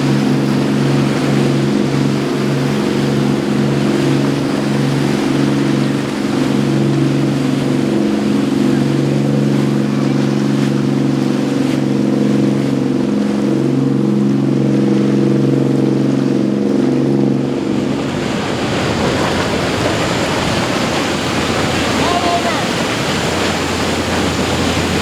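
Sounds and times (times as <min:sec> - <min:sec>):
powerboat engines running: 0:00.0 - 0:25.0
waves rushing: 0:00.0 - 0:25.0
wind: 0:00.0 - 0:25.0.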